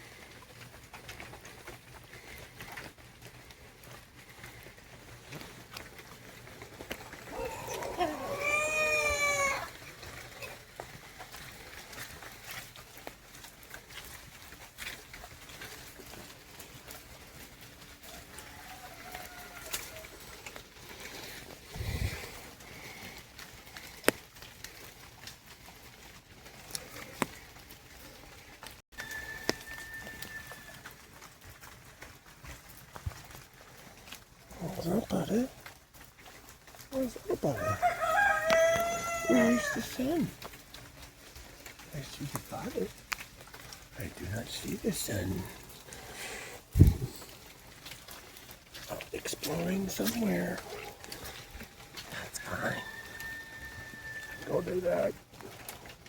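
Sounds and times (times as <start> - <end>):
light rain patter: 0.0 - 56.0.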